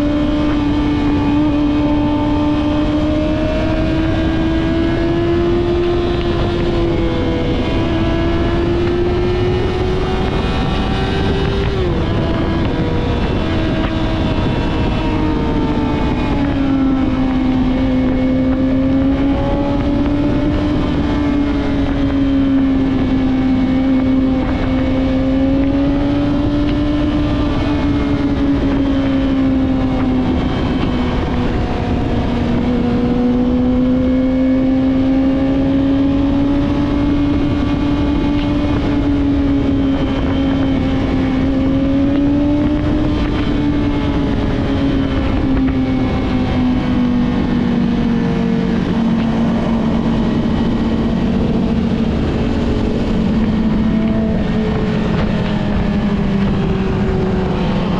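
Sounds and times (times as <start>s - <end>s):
motorcycle engine running: 0.0s - 57.9s
road noise: 0.0s - 57.9s.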